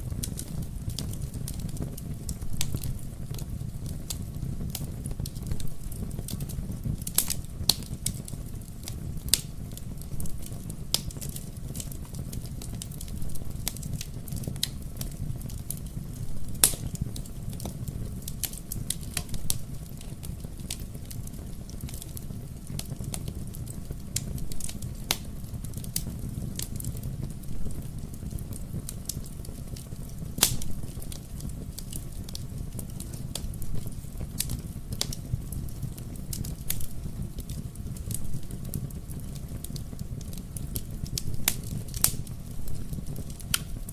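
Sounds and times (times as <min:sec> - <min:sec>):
low rumble of burning fire: 0:00.0 - 0:43.9
wood fire crackling: 0:00.0 - 0:43.9.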